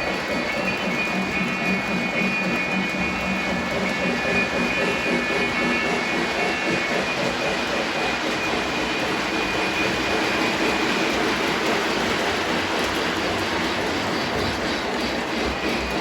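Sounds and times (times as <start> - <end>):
model trains running on track: 0.0 - 16.0.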